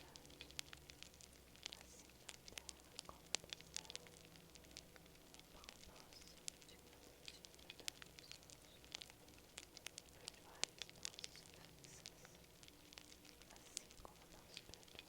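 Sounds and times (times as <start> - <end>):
campfire crackling and popping: 0.0 - 15.0
soft hiss: 0.0 - 15.0.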